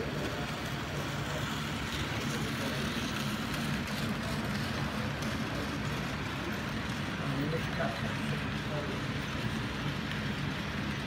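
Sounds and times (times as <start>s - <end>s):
model train motor hum: 0.0s - 11.0s.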